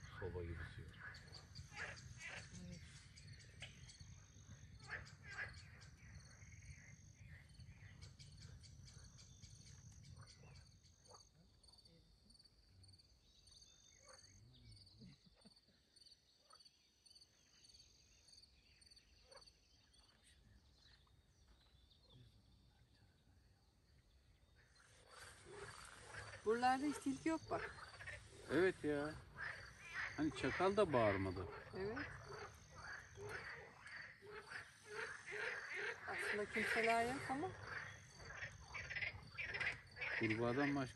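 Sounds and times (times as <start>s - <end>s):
frogs and insects trilling: 0.0s - 40.9s.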